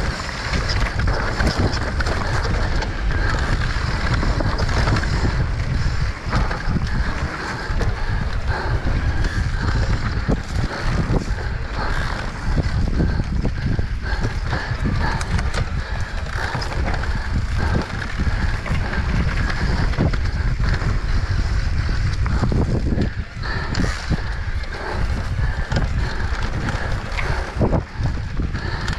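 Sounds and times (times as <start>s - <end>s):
bike rattles and knocks: 0.0s - 28.9s
bike tyres rolling over dirt: 0.0s - 28.9s
wind rumble on microphone: 0.0s - 28.9s.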